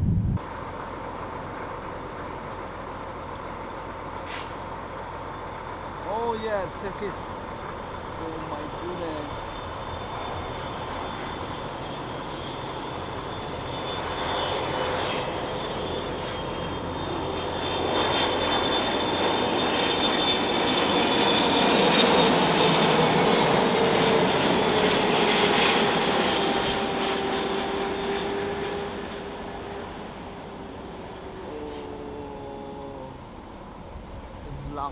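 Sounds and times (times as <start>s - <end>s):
jet engines passing on landing: 0.0s - 34.9s.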